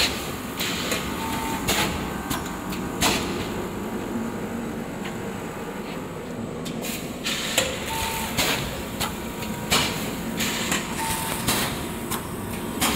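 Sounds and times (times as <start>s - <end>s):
packaging machine hum: 0.0s - 12.9s.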